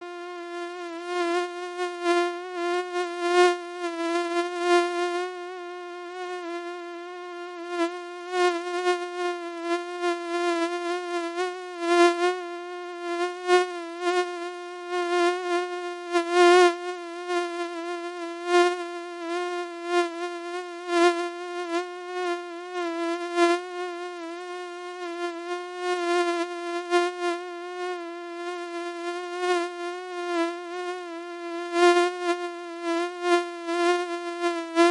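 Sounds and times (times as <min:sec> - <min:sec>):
mosquito buzzing: 0:00.0 - 0:34.9.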